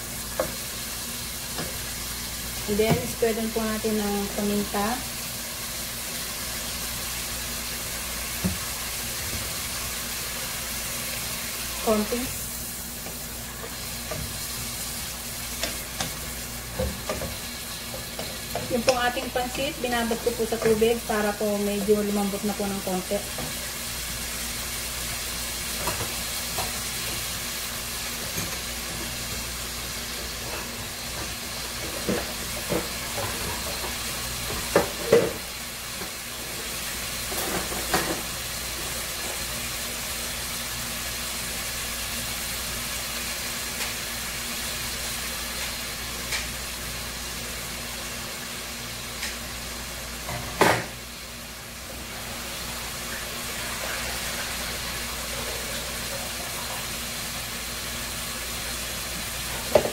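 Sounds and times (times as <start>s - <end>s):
food sizzling in oil: 0.0s - 59.9s.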